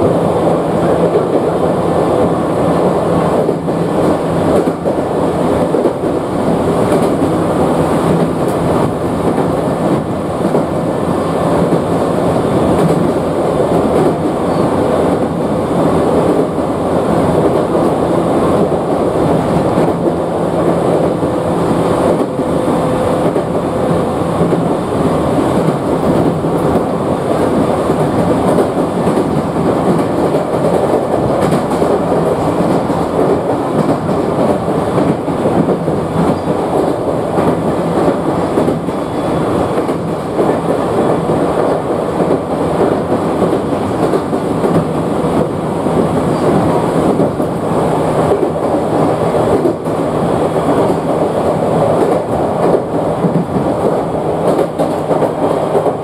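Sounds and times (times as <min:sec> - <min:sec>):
train wheel-on-rail noise: 0:00.0 - 0:56.0.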